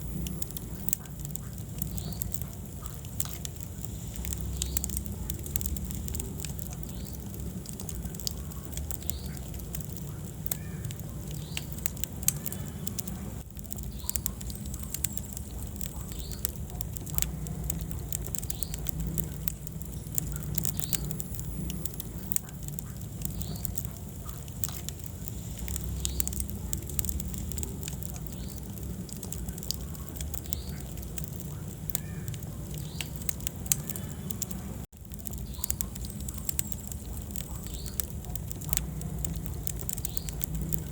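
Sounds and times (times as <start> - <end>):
fire crackles and pops: 0.0 - 40.9
fire flames rumbling: 0.0 - 40.9.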